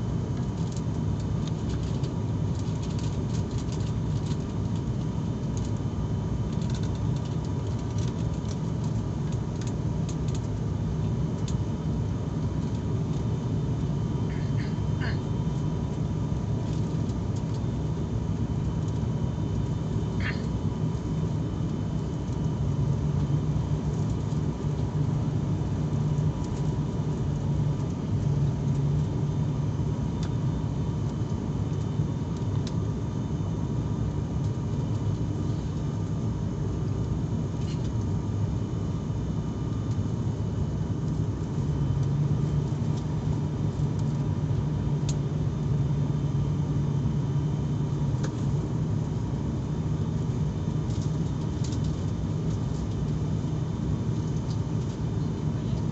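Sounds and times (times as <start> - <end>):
airliner engine drone: 0.0 - 55.9
faint constant whine: 0.0 - 55.9.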